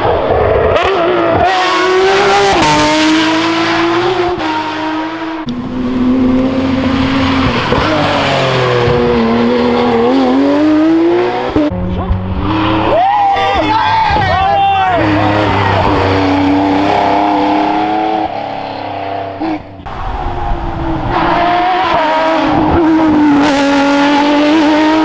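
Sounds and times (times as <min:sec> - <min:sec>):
rally car engine accelerating: 0:00.0 - 0:13.1, 0:14.9 - 0:25.0.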